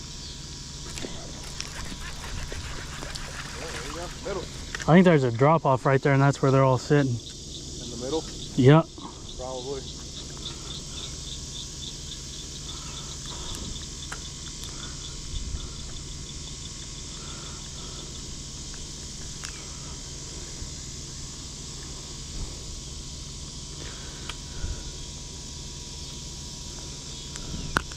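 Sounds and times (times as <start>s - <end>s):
cricket chirping: 0.0s - 27.9s
insects shrilling: 0.0s - 27.9s.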